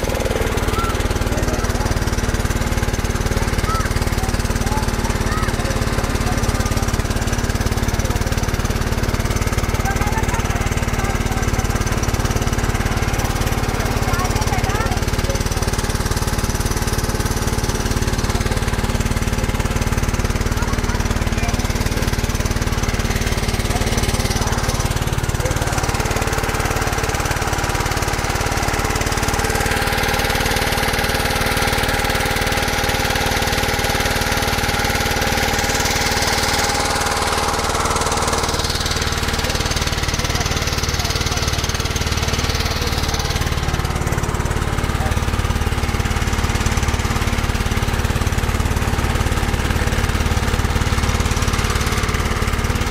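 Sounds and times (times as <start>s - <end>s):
diesel boat engine chugging: 0.0s - 52.9s.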